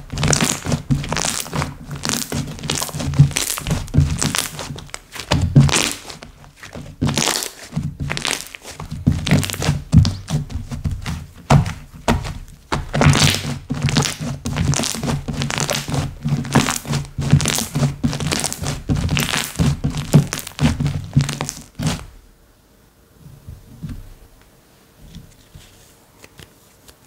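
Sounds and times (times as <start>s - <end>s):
slime being squished: 0.0s - 22.1s.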